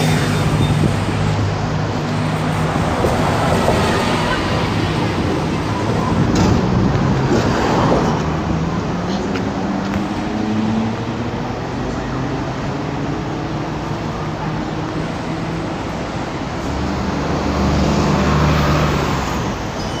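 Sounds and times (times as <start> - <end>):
heavy vehicle engine hum: 0.0 - 20.0
road traffic engines: 0.0 - 20.0.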